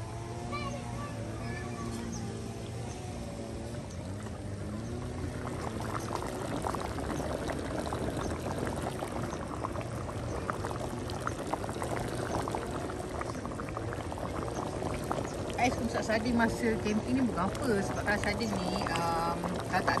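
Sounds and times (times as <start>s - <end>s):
sauce bubbling in a pot: 0.2s - 20.0s.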